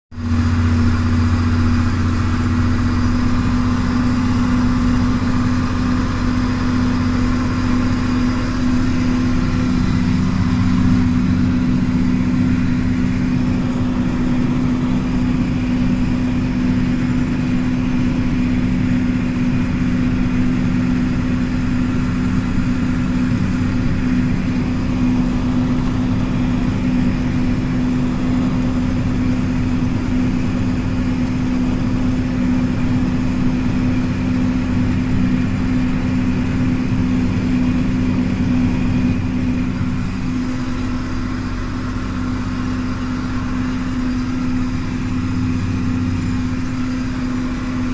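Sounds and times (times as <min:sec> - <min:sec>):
tractor diesel engine drone: 0:00.1 - 0:47.9.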